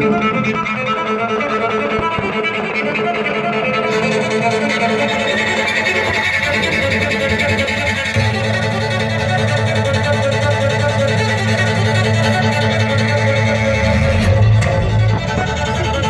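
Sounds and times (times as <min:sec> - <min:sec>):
instrumental music: 0:00.0 - 0:16.0.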